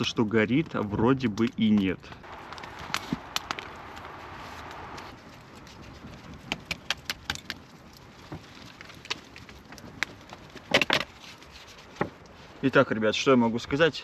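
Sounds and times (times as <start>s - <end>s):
campfire crackling and popping: 0.0s - 13.9s.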